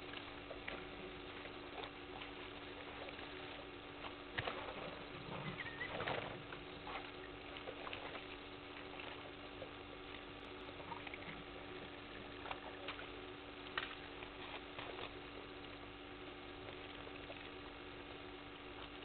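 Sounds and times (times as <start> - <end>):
steady hiss and low hum: 0.0 - 19.0.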